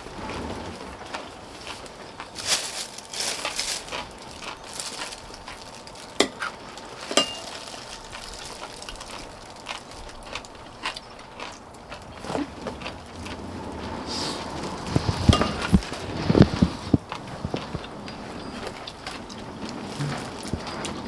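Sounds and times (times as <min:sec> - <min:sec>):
wet chewing and slurping: 0:00.4 - 0:21.0.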